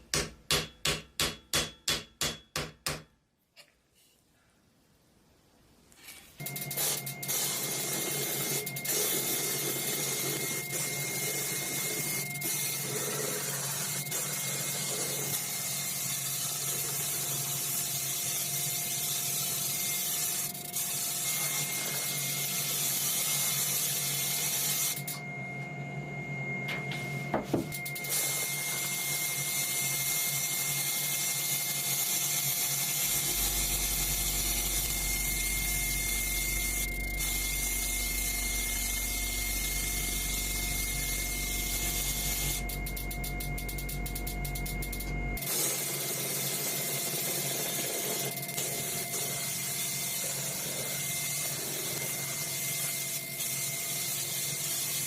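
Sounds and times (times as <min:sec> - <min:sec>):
power tool motor running: 0:06.4 - 0:25.2, 0:27.8 - 0:55.0.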